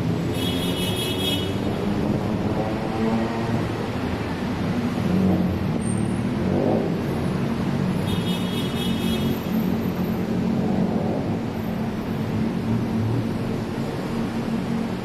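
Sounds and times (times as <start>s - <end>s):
road traffic drone: 0.0s - 15.0s
vehicle revving: 0.0s - 15.0s.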